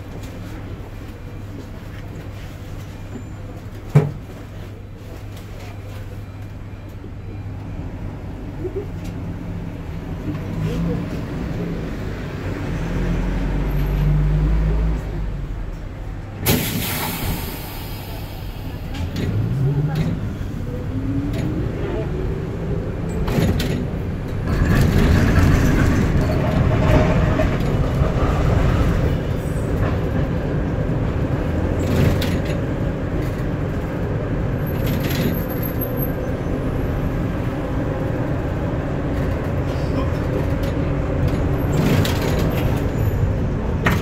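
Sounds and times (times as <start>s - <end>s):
tram running rumble: 0.0s - 44.0s.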